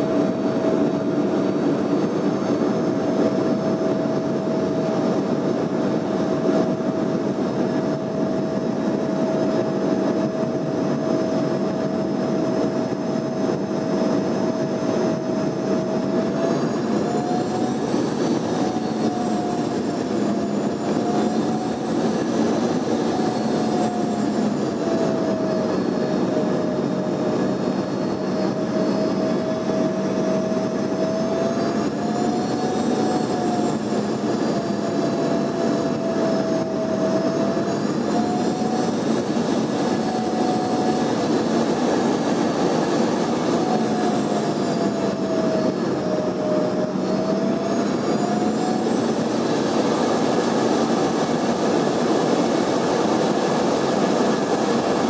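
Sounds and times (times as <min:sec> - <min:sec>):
airliner cabin air rush: 0:00.0 - 0:55.0
wavering engine whine: 0:00.0 - 0:55.0.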